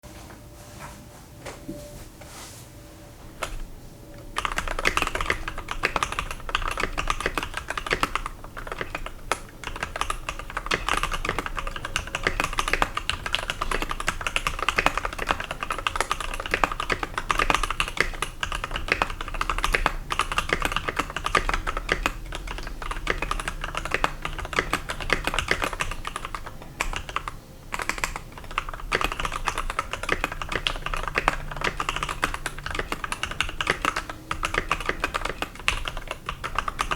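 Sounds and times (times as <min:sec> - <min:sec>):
mechanical keyboard typing: 0:03.4 - 0:36.9.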